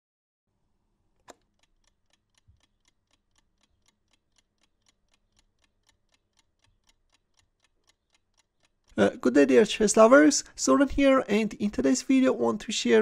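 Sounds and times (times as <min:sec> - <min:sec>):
chess clock ticking: 0:01.3 - 0:13.0.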